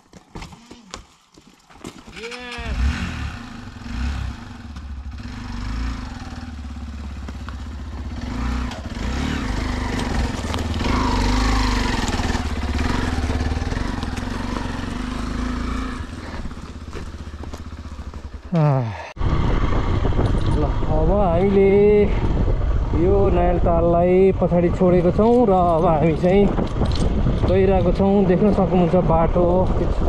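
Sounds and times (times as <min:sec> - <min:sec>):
motorcycle engine running: 0:02.7 - 0:30.0.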